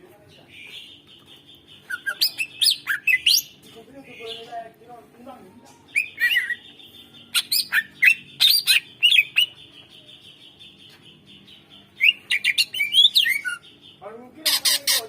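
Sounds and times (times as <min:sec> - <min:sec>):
bird whistling song: 0:00.6 - 0:03.6, 0:05.9 - 0:15.0.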